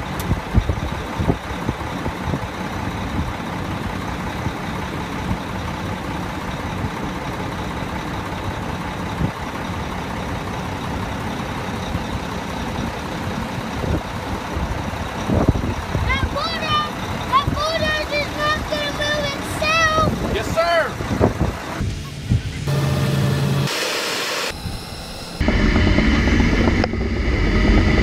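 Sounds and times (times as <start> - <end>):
truck diesel engine idling: 0.0 - 23.7.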